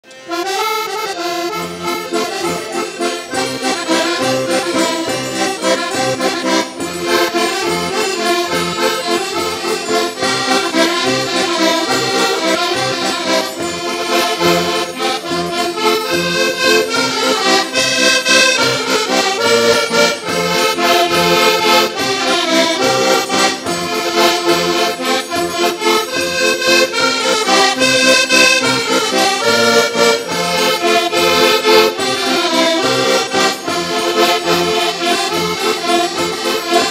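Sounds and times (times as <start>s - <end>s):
button accordions playing folk tune: 0.0s - 36.9s.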